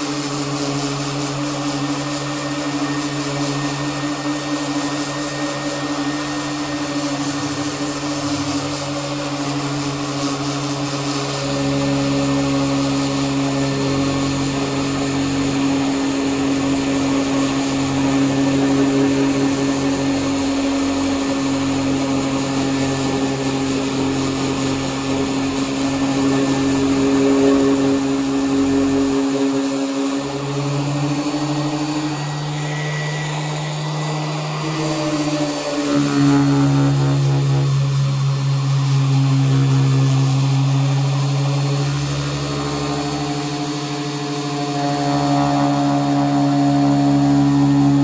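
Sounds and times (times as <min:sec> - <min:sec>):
power sander on metal panel: 0:00.0 - 0:48.0.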